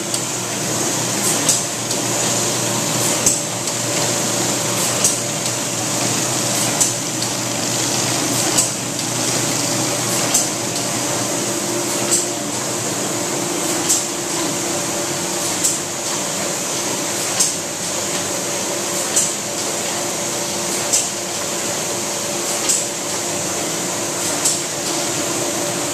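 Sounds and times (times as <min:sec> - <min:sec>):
paper-handling machine humming: 0:00.0 - 0:25.9.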